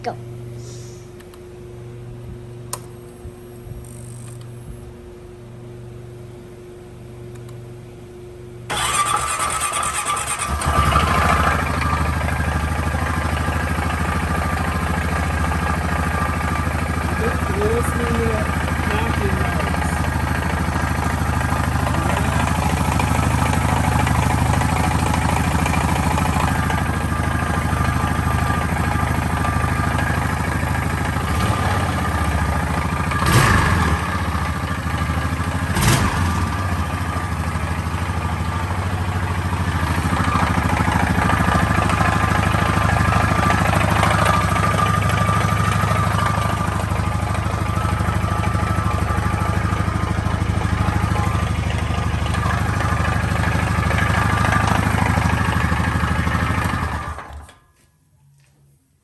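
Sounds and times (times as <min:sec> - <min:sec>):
atv engine idling: 0:08.7 - 0:57.4.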